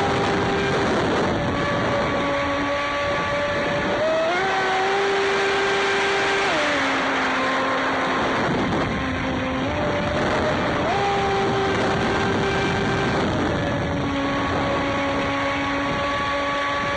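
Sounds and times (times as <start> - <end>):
electric motor whining: 0.0 - 16.9.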